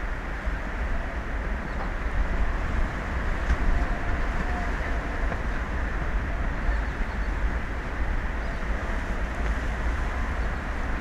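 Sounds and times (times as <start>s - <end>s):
hiss of wind and sea: 0.0s - 11.0s
wind buffeting microphone: 0.0s - 11.0s.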